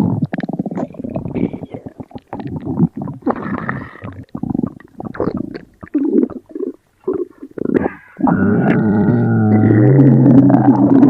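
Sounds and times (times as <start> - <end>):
stomach growling and gurgling: 0.0 - 11.0.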